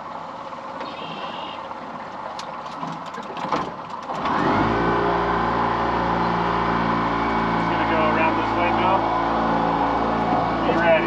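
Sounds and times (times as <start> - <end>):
boat motor running: 0.0 - 11.0
water noise: 0.0 - 11.0
wind: 0.0 - 11.0.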